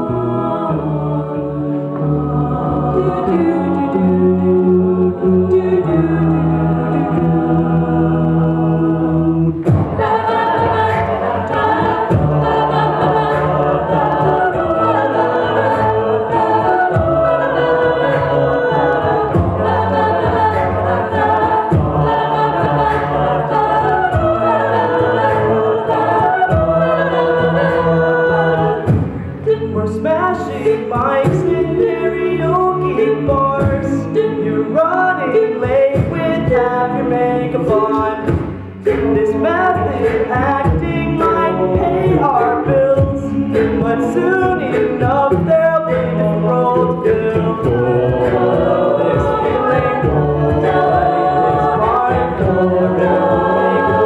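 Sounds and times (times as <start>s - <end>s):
a cappella group singing: 0.0s - 54.0s.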